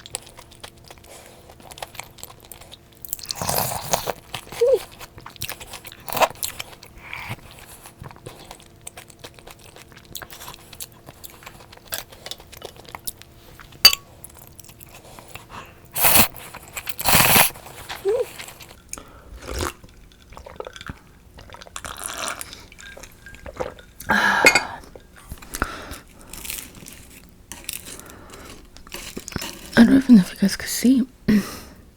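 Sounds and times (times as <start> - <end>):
chewing: 0.0 - 24.1, 24.7 - 29.8
crunching fried food: 0.0 - 24.1, 25.1 - 29.8.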